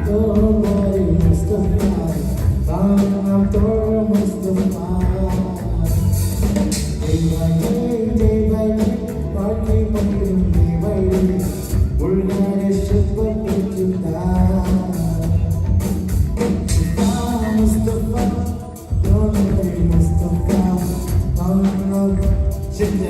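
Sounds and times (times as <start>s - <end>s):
band playing with singer: 0.0s - 23.0s.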